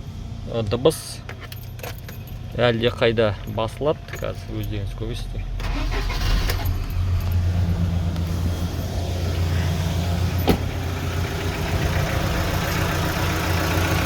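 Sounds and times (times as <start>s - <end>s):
engine idling quietly: 0.0s - 14.0s.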